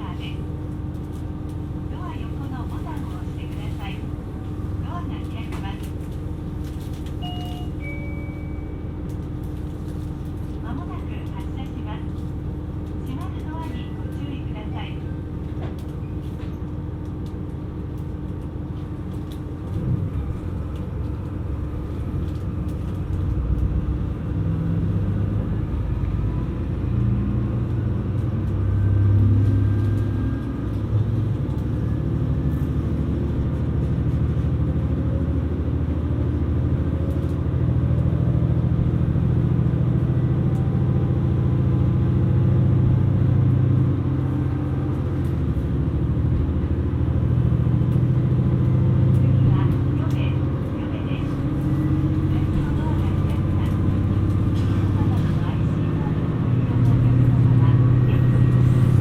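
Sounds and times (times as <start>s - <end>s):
diesel railcar engine humming: 0.0s - 59.0s.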